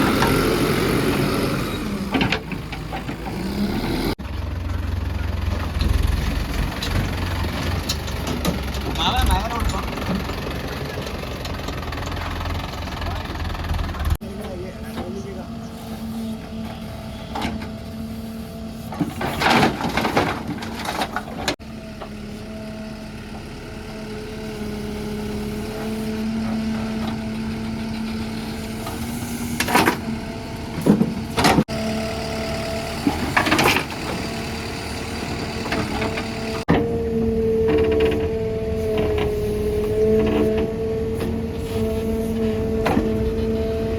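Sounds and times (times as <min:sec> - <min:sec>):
heavy diesel machinery running: 0:00.0 - 0:43.9.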